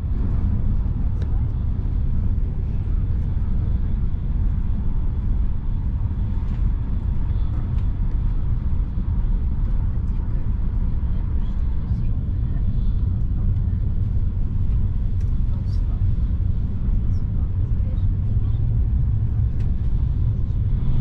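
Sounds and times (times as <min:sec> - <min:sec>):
train carriage rumble: 0:00.0 - 0:21.0.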